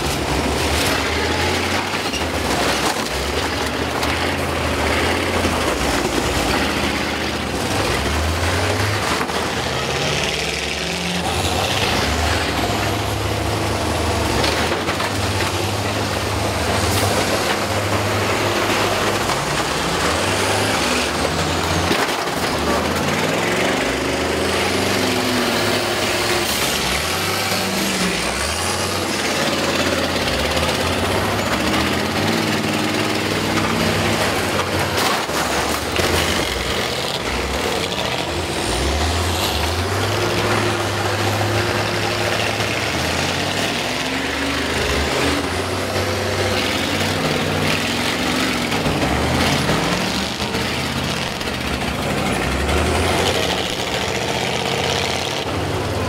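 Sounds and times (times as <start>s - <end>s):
bus engines revving: 0.0s - 56.0s.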